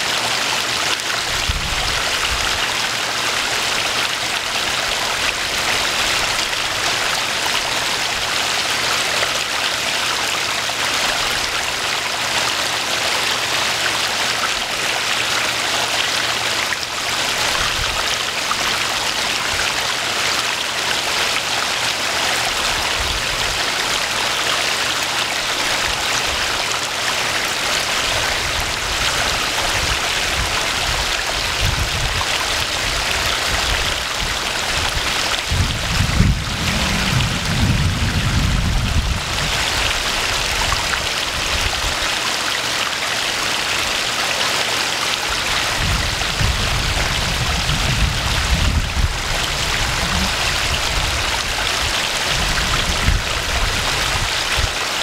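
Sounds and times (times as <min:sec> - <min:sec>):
waterfall splashing into pond: 0:00.0 - 0:55.0.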